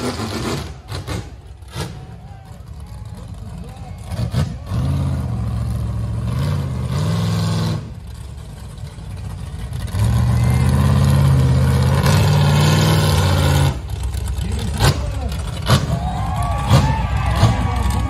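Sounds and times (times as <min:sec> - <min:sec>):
buggy engine revving hard: 0:00.0 - 0:02.2, 0:03.9 - 0:18.0.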